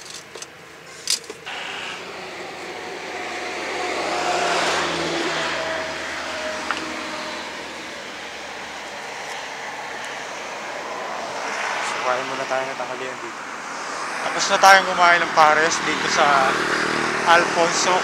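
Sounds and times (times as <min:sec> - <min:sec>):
vehicle passing by: 0:01.4 - 0:18.0.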